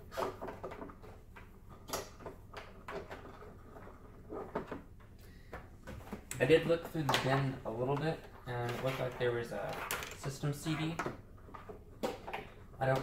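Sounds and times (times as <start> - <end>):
handling knocks and clicks: 0.0 - 13.0.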